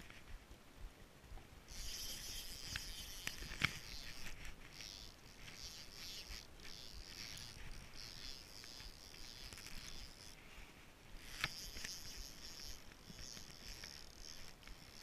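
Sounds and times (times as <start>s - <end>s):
reel click: 1.7s - 10.4s, 11.2s - 15.0s
fishing reel whirring: 1.7s - 10.5s, 11.2s - 15.0s.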